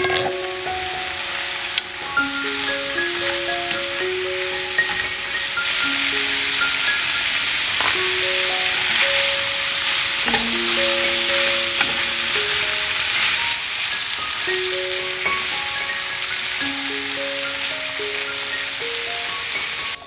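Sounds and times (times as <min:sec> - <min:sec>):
chopsticks stirring in skillet: 0:00.0 - 0:16.6
meat and shrimp sizzling: 0:00.0 - 0:20.0
plucked-note background melody: 0:00.0 - 0:20.0.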